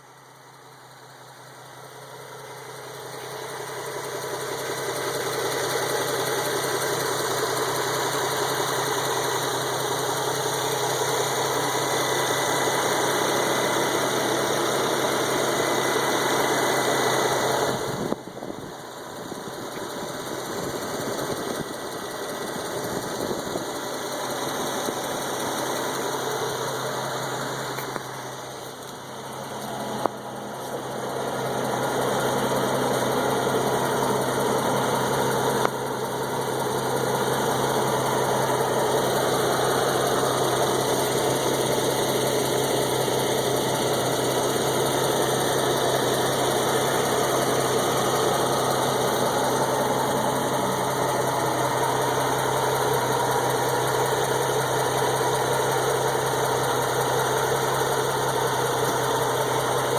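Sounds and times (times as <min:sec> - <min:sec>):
car engine idling: 0:00.0 - 0:59.9
exhaust leak ticking: 0:01.6 - 0:59.9.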